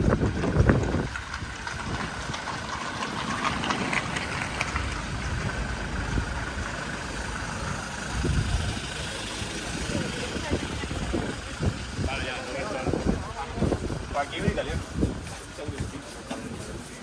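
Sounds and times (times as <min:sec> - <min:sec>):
low rumble: 0:00.0 - 0:14.2
street noise: 0:00.0 - 0:17.0
vehicle engine idling: 0:00.0 - 0:17.0.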